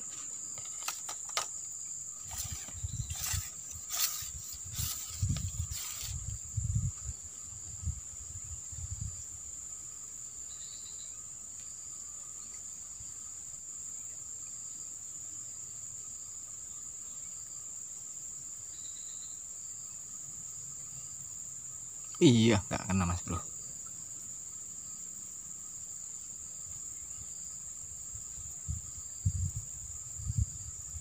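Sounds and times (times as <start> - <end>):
insect chorus buzzing: 0.0 - 31.0.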